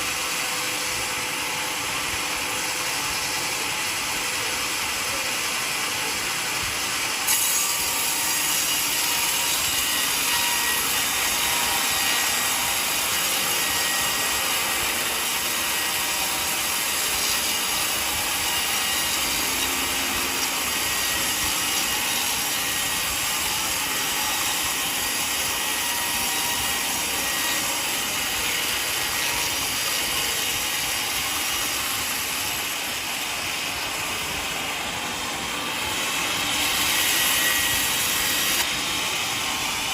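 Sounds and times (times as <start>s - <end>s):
saw blade cutting through log: 0.0s - 39.9s.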